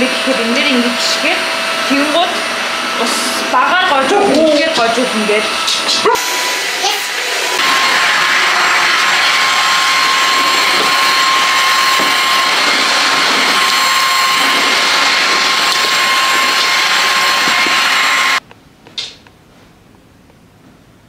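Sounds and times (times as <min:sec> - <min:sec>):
vacuum floor washer running: 0:00.0 - 0:18.4.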